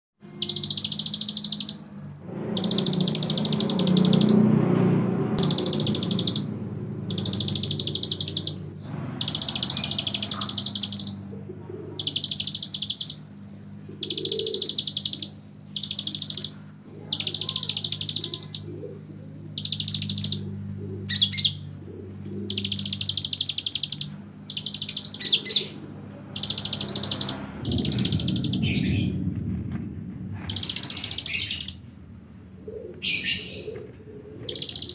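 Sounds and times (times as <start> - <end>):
bird buzzing trill: 0.2 - 29.3, 30.1 - 34.9
low steady hum: 0.2 - 34.9
bird sharp chirps: 0.3 - 4.5, 5.4 - 29.3, 30.1 - 34.9.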